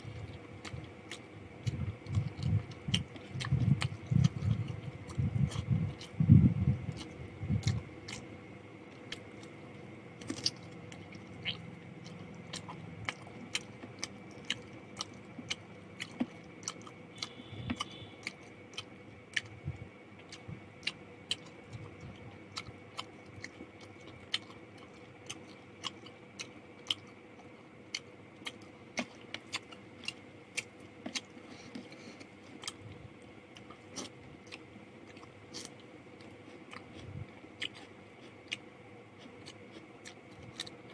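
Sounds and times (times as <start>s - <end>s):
chewing and mouth sounds: 0.0s - 40.9s.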